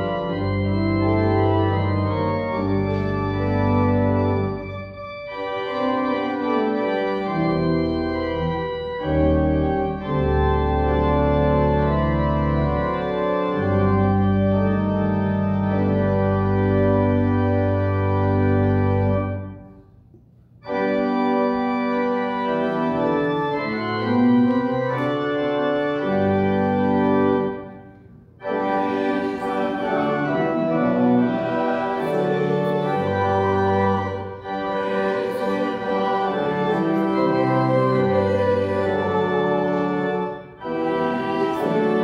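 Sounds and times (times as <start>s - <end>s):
church organ chords: 0.0s - 42.0s.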